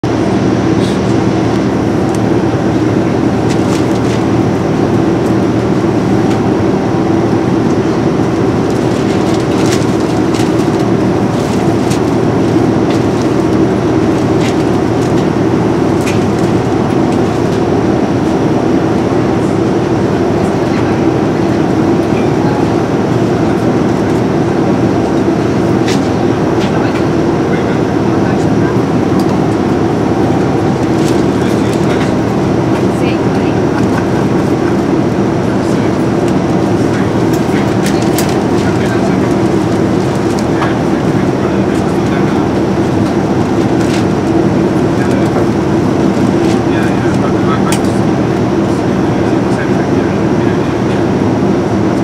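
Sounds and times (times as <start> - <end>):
airliner cabin drone: 0.0 - 52.0.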